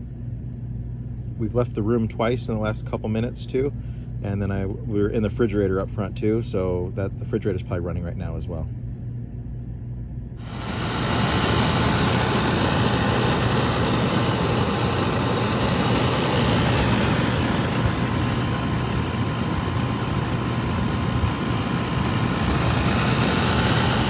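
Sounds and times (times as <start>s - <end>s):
air conditioner fan rushing: 0.0s - 24.0s
compressor low hum: 0.0s - 24.0s.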